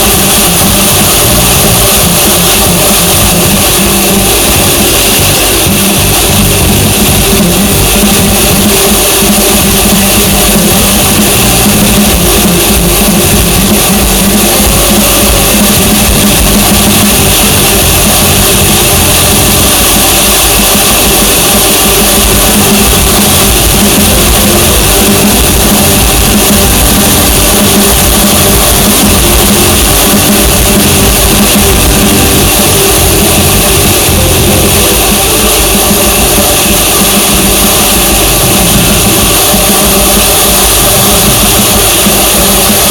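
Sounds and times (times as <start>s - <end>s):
music playing: 0.0s - 42.9s
vehicle engine droning: 0.0s - 42.9s.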